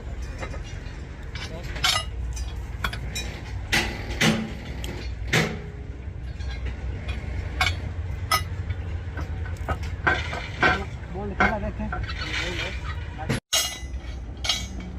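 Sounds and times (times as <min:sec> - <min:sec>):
metal clanks and knocks: 0:00.0 - 0:14.9.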